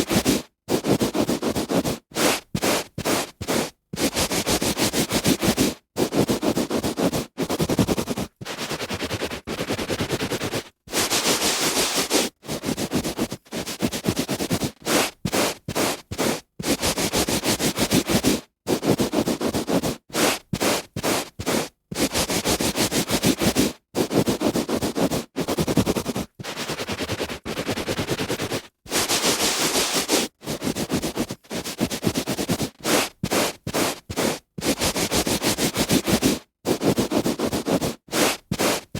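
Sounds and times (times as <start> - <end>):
hand rubbing on carpet: 0.0 - 38.9.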